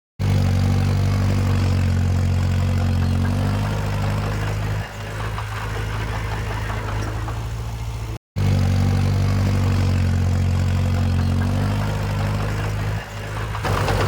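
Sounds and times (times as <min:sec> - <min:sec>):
heavy machine engine running: 0:00.2 - 0:14.0.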